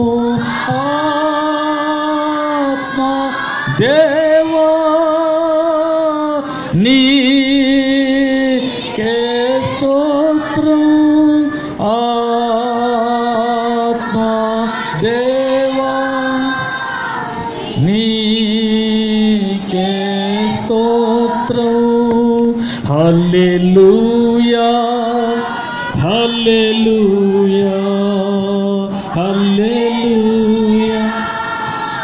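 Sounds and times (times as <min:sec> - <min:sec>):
man singing into a microphone: 0:00.0 - 0:32.0.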